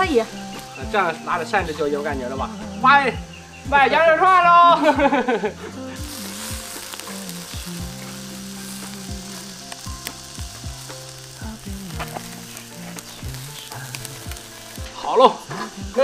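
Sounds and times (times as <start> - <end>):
skewers sizzling on a grill: 0.0 - 16.0.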